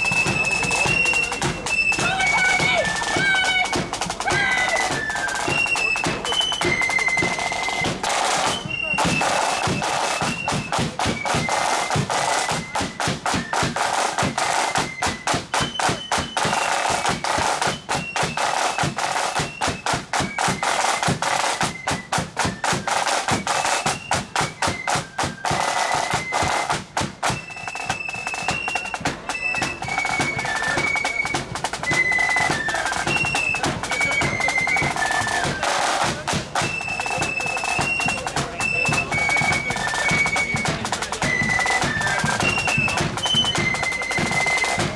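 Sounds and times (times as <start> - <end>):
high flutes playing: 0.0 - 44.9
rattling snare drums: 0.0 - 44.9.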